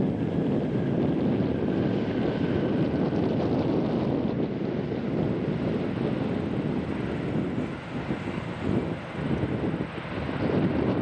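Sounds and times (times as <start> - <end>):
jet engines rumbling: 0.0 - 11.0
wind buffeting microphone: 0.0 - 11.0.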